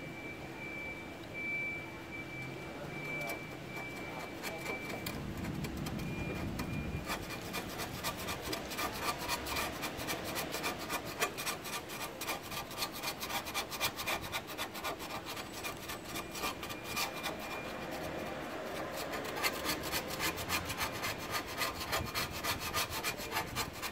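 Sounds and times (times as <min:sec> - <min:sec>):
putty knife scraping metal: 0:03.1 - 0:23.9.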